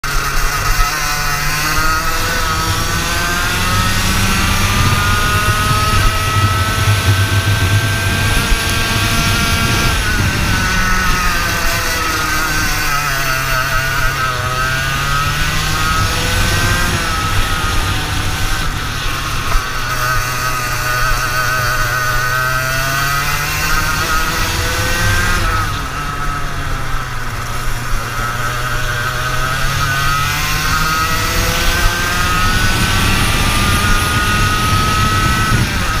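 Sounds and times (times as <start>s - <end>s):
racing kart engine: 0.0s - 36.0s.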